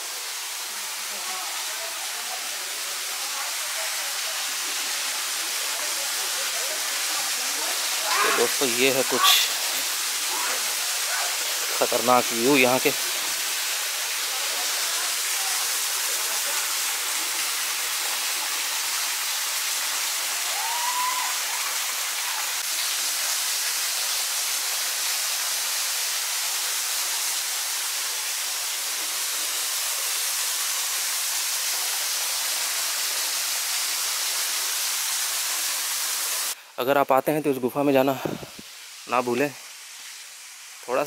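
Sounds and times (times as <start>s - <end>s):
waterfall splashing into pool: 0.0s - 36.6s.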